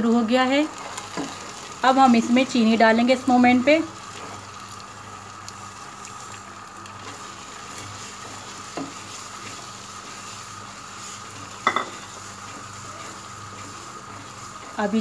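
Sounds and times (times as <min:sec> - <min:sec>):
food sizzling in a pan: 0:00.0 - 0:15.0
spatula stirring: 0:00.7 - 0:02.2, 0:02.8 - 0:15.0.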